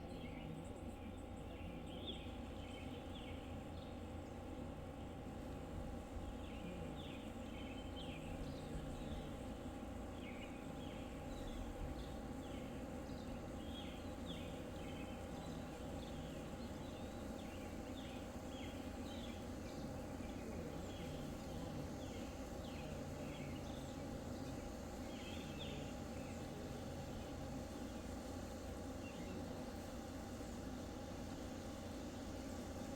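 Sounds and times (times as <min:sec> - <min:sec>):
birds chirping: 0:00.0 - 0:32.9
low background hum: 0:00.0 - 0:32.9.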